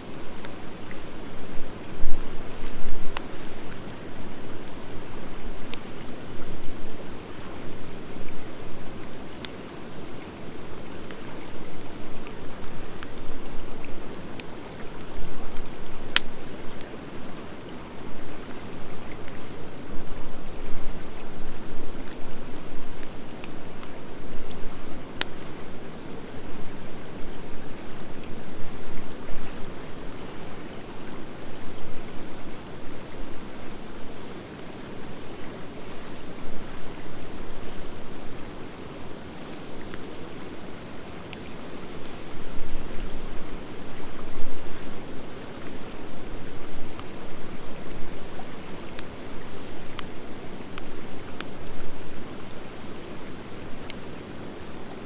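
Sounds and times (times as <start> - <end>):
campfire burning: 0.0 - 55.0.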